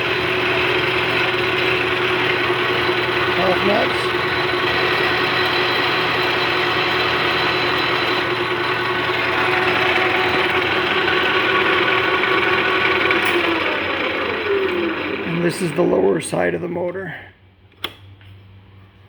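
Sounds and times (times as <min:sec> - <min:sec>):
lathe humming and whining: 0:00.0 - 0:16.7.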